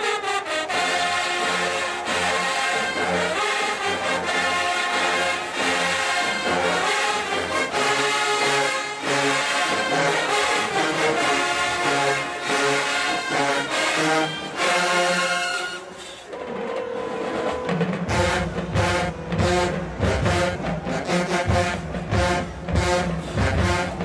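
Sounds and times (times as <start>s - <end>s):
marching band brass playing: 0.0s - 24.0s.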